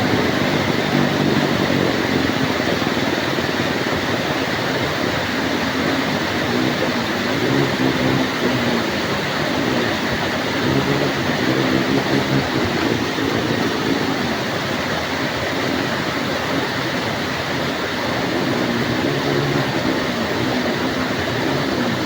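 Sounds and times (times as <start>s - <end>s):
faint low drone: 0.0s - 15.1s, 16.6s - 22.0s
heavy rain pouring: 0.0s - 22.0s.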